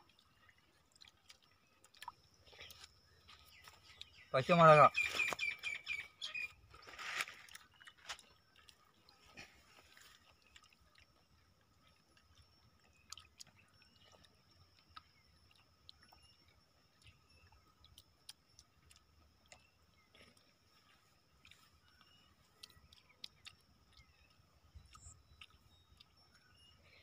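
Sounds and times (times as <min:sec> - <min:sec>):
chewing: 0:00.0 - 0:04.3, 0:05.1 - 0:27.0.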